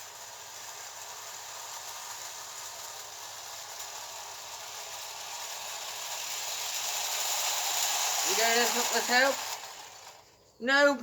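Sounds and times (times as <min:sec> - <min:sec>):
clockwork toy train whirring: 0:00.0 - 0:11.0.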